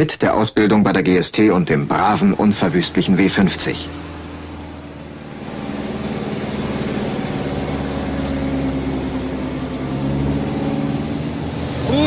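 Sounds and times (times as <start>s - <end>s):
diesel truck engine under load: 1.4s - 12.0s.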